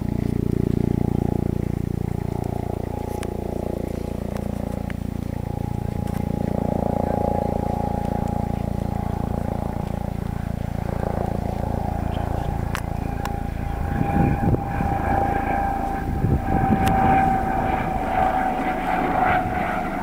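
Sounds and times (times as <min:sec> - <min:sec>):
engine drone: 0:00.0 - 0:20.0
wind buffeting microphone: 0:00.0 - 0:20.0.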